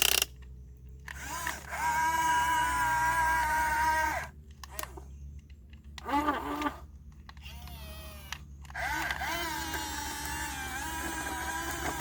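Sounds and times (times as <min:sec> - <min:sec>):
electric motor and hydraulic pump whining: 0:01.1 - 0:05.1, 0:06.0 - 0:12.0.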